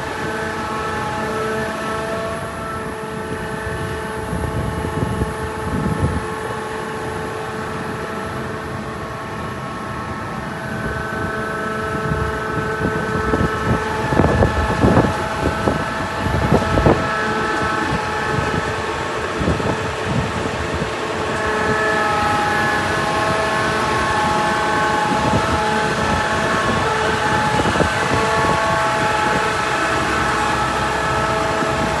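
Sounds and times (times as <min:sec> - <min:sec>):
machine engine running: 0:00.0 - 0:32.0.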